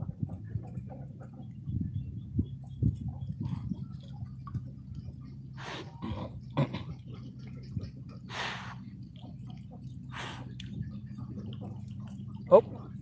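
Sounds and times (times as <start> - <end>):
steady low hum: 0.0 - 13.0
dogs snuffling and snorting: 2.5 - 13.0.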